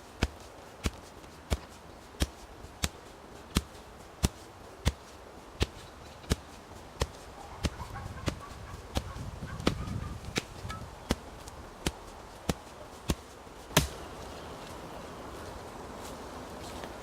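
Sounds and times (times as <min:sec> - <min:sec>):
hand tool chopping: 0:00.2 - 0:14.1.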